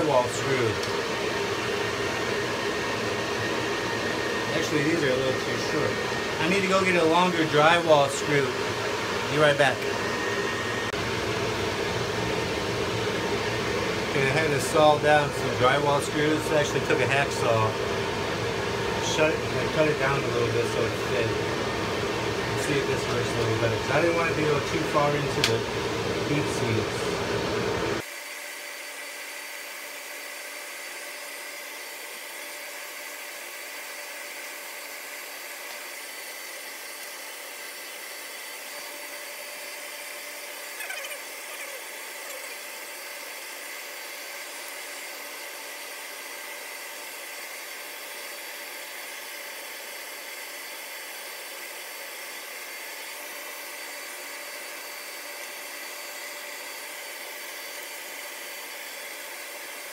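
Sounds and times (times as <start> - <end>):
cooling fans whirring: 0.0 - 59.9.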